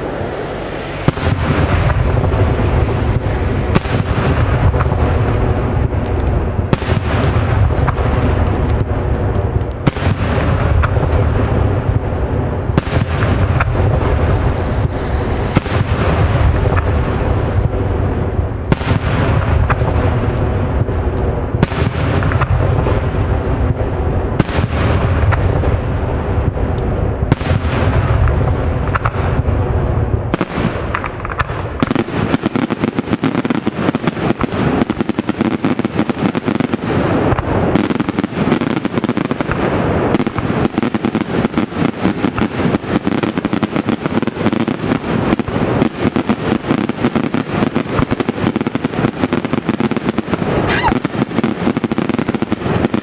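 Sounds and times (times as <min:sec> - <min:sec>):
fireworks bangs and crackling: 0:00.0 - 0:53.0
heavy firework booms: 0:00.0 - 0:53.0.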